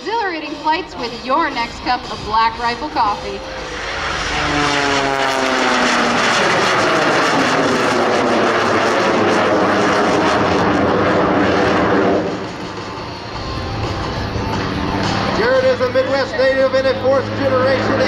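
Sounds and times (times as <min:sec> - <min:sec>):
biplane passing by: 0:00.0 - 0:18.0.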